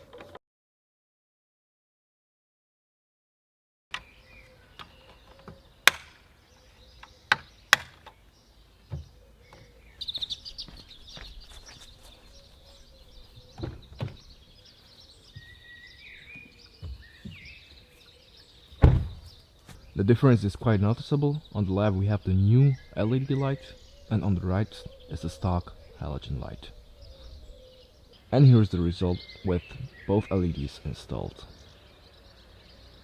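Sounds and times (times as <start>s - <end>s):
birds chirping: 0.0s - 0.4s, 3.9s - 33.0s.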